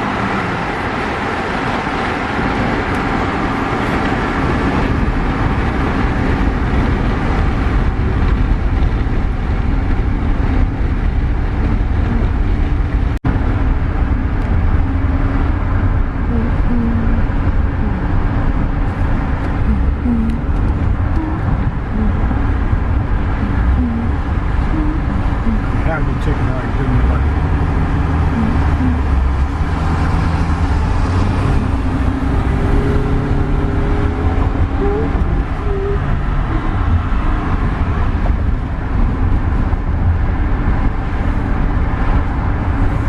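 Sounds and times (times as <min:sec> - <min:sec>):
motor vehicle driving on road: 0:00.0 - 0:43.0.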